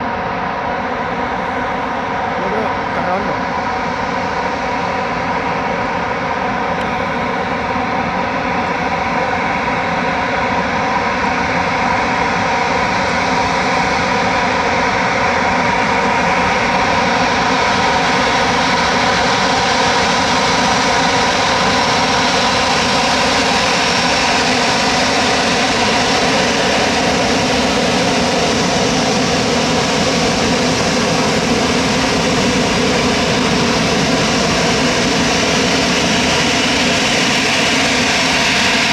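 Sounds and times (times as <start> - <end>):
jet engines at takeoff thrust: 0.0 - 38.9.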